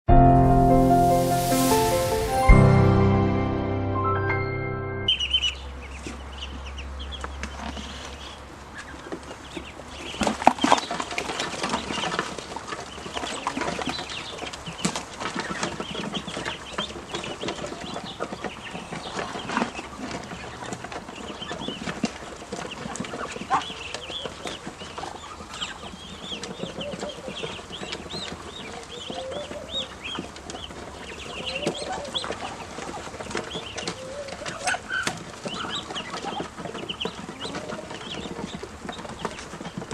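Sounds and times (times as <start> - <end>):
ducklings peeping and chirping: 5.0 - 39.9.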